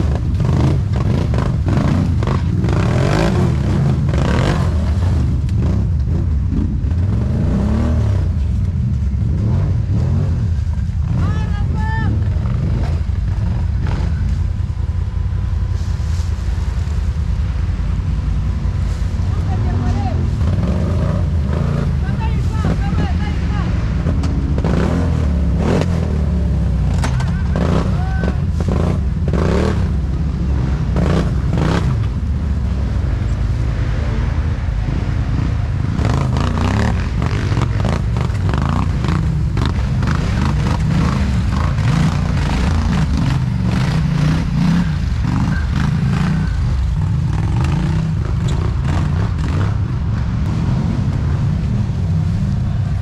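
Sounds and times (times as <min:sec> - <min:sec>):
atv engines revving: 0:00.0 - 0:53.0.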